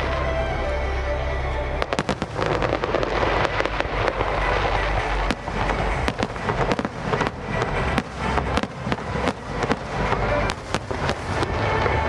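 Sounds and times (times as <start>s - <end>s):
fireworks cracks and pops: 1.8s - 12.0s
fireworks dense crackling: 1.8s - 12.0s.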